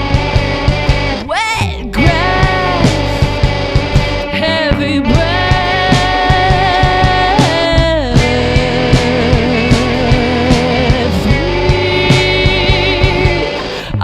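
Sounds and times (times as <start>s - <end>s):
rock band playing: 0.0s - 14.0s
person singing long notes: 1.3s - 14.0s.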